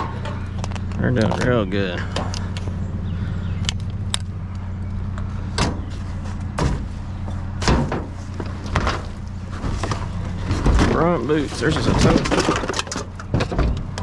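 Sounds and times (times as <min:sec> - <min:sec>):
junk knocking and clattering: 0:00.0 - 0:03.0, 0:05.1 - 0:14.0
engine idling: 0:00.0 - 0:14.0.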